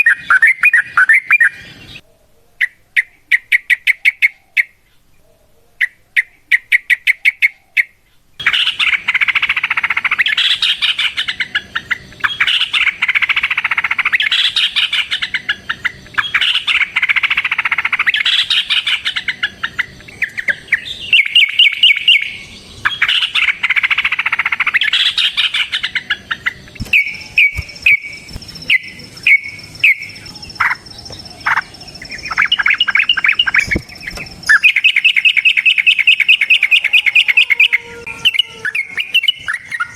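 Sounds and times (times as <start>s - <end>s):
bulbuls chattering song: 0.0s - 39.9s.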